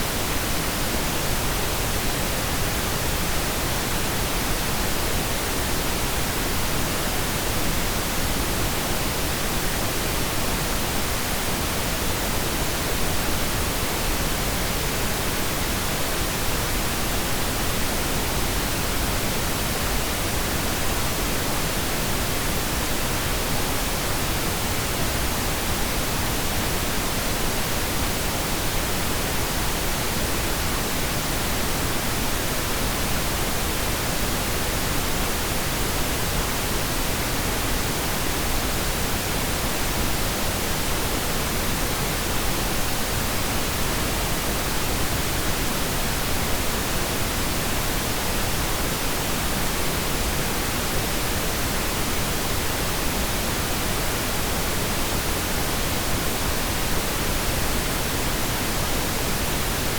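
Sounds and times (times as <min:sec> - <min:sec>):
steady pink noise hiss: 0:00.0 - 0:59.9.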